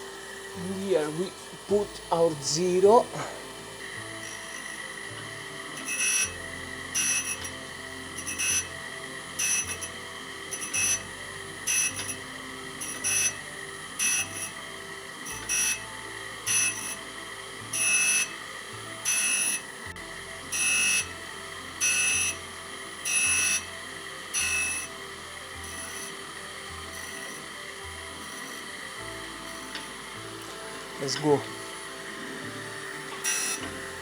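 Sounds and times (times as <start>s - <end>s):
grinder wheel grinding metal: 0.0s - 34.0s
spindle whine: 0.0s - 34.0s.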